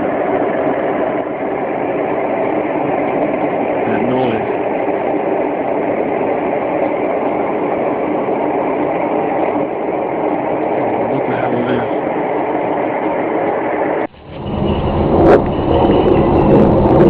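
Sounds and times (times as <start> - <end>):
loud droning rumble: 0.0 - 17.0.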